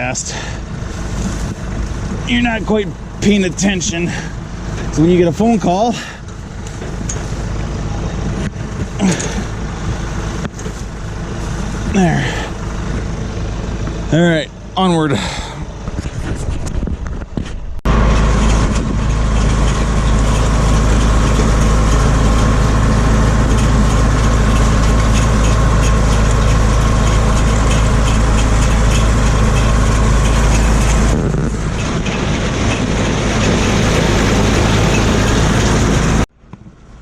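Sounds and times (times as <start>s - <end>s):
mower machine whine: 0.0s - 17.2s, 17.9s - 36.3s
tractor diesel engine under load: 0.0s - 37.0s.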